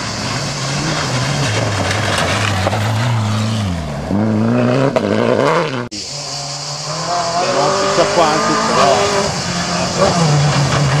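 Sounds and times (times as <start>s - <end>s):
rally car engine: 0.0s - 11.0s.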